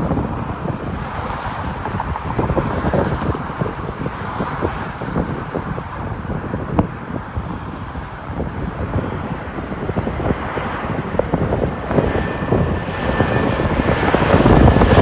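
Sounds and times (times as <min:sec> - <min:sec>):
turboprop aircraft engines rushing: 0:00.0 - 0:15.0
wind buffeting microphone: 0:00.0 - 0:15.0.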